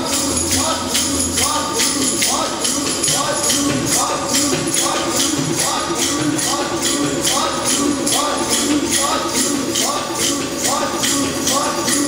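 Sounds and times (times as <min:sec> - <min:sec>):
tabla rhythm: 0:00.0 - 0:12.0.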